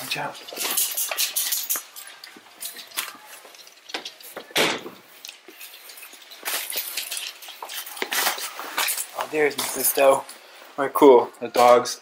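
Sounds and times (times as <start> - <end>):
handling clicks and rustling: 0.0 - 10.5, 11.1 - 12.0.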